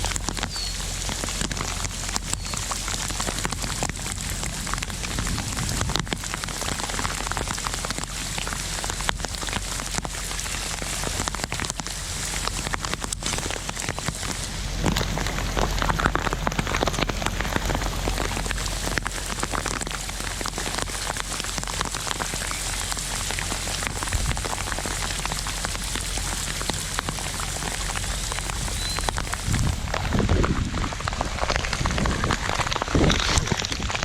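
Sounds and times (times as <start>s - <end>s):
heavy rain: 0.0s - 34.0s
raindrops ticking on surfaces: 0.0s - 34.0s.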